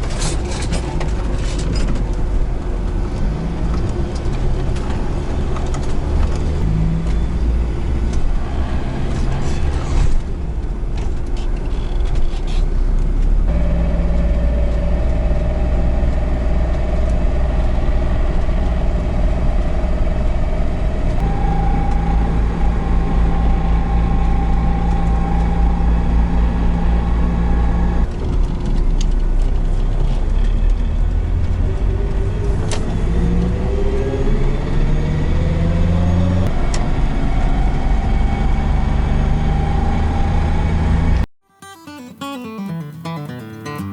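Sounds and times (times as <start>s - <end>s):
drivetrain whine: 0.0s - 41.3s
van engine rumble: 0.0s - 41.3s.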